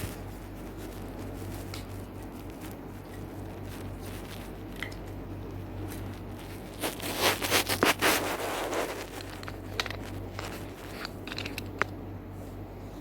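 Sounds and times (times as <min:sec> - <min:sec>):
crackles and clicks: 0:00.0 - 0:12.0.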